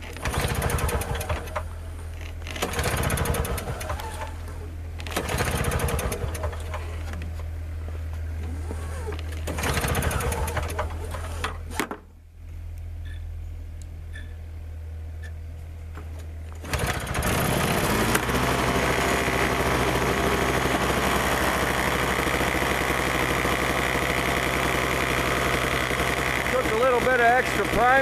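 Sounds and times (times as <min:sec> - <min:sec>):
snowblower engine running: 0:00.0 - 0:11.7, 0:16.5 - 0:28.0.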